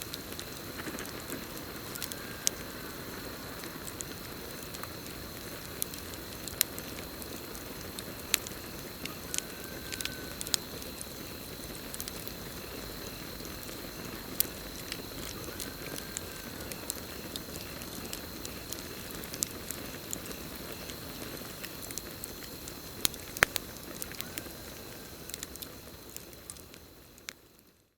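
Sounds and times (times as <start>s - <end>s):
campfire rushing: 0.0s - 27.9s
crickets chirping: 0.0s - 27.9s
fire crackles and pops: 0.0s - 27.9s.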